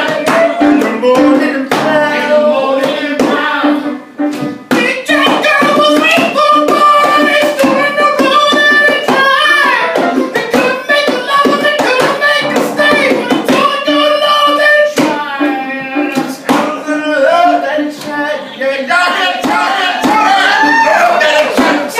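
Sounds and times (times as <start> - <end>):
wordless vocal notes: 0.0 - 21.9.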